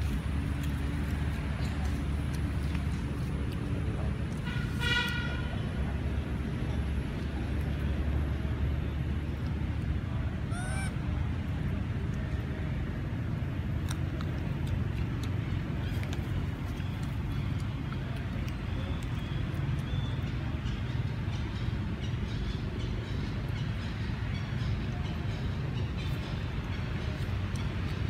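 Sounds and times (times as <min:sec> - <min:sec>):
low rumble of road traffic: 0:00.0 - 0:28.0.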